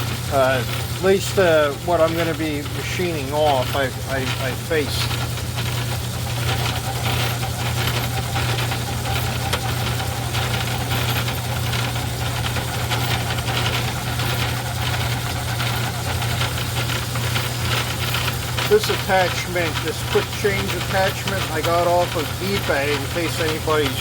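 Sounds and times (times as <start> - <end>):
cutting tool rasping on steel: 0.0 - 23.9
metal lathe humming: 0.0 - 24.0.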